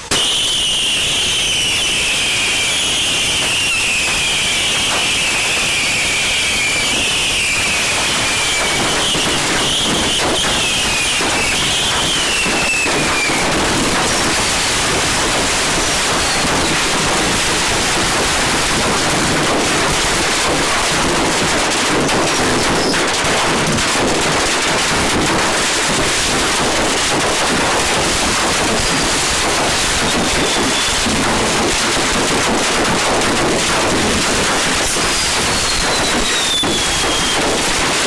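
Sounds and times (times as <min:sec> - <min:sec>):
firework falling whistle: 0:00.0 - 0:38.0
fireworks crackling: 0:00.0 - 0:38.0.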